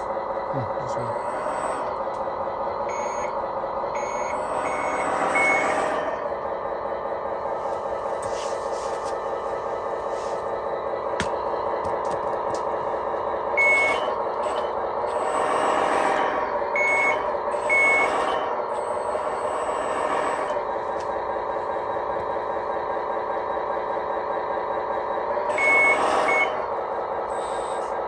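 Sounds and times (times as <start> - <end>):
simulated diesel engine idling: 0.0 - 28.0.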